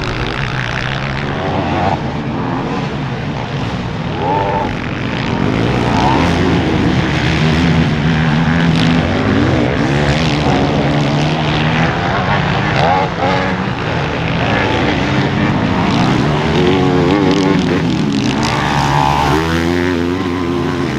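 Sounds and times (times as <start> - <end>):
motocross engines revving: 0.0 - 20.9.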